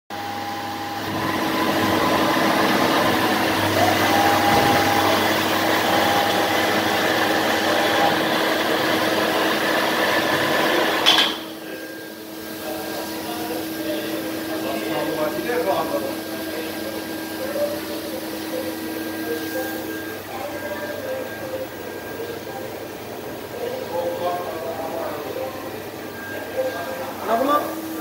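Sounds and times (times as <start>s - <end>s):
milling machine humming: 0.1s - 28.0s.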